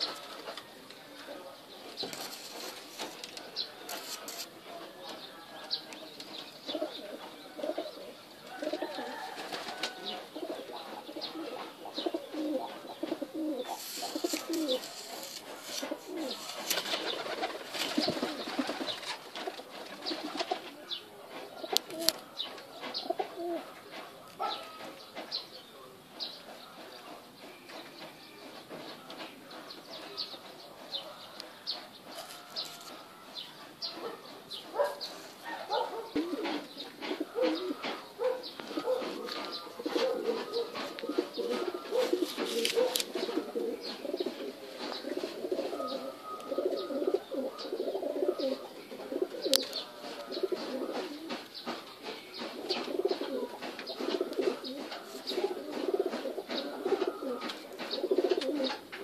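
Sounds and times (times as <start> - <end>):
pigeons cooing: 0.0 - 59.0.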